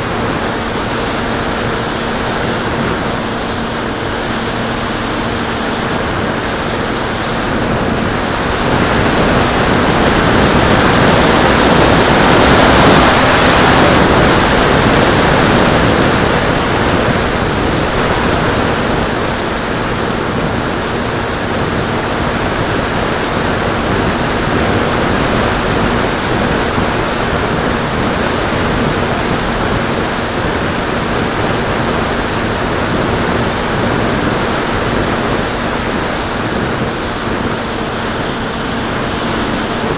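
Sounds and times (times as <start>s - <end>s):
electric motor and propeller humming: 0.0s - 39.9s
wind rushing over microphone: 0.0s - 39.9s.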